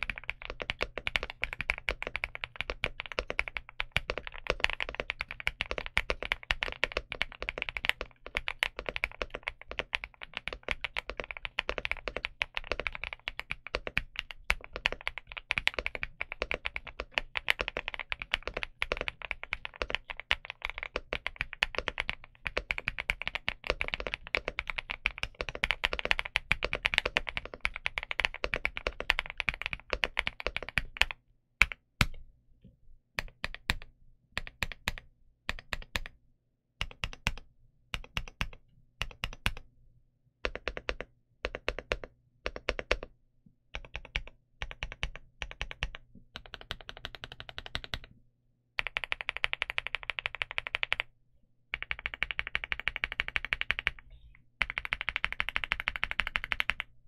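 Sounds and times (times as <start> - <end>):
mechanical keyboard typing: 0.0 - 32.2, 33.2 - 36.1, 36.8 - 39.6, 40.5 - 43.1, 43.8 - 48.1, 48.8 - 51.1, 51.7 - 54.0, 54.6 - 56.9.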